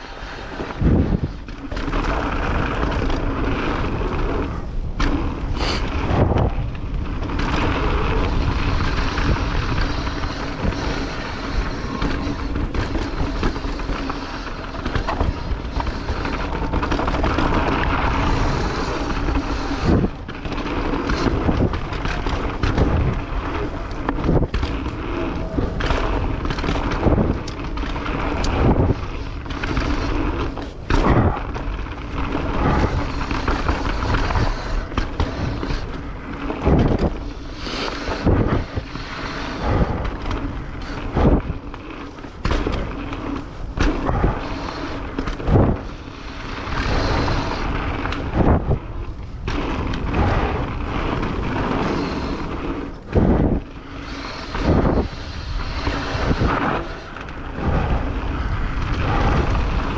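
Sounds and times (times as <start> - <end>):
bike rattling over bumps: 0.0 - 59.9
tyre and wind noise: 0.0 - 59.9.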